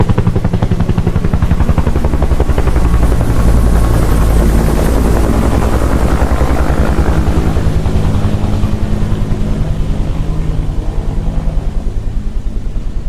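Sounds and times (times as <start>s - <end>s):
helicopter rotor chop: 0.0s - 13.0s
helicopter turbine drone: 0.0s - 13.0s.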